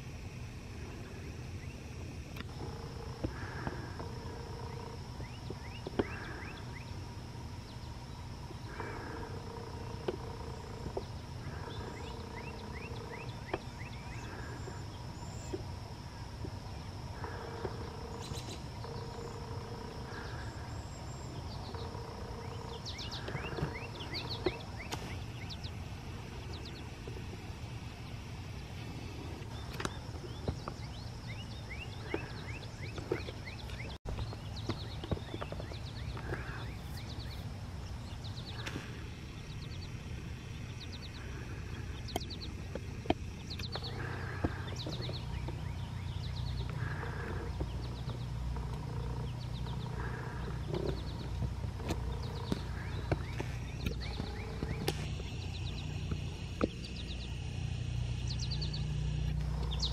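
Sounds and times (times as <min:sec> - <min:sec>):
birds chirping and calling: 0:02.4 - 0:07.0, 0:07.6 - 0:59.9.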